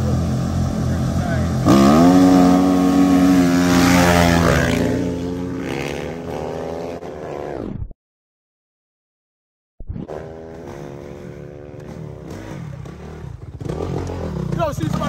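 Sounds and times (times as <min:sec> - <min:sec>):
dirt bike engines racing past: 0:00.0 - 0:07.7, 0:10.0 - 0:15.0.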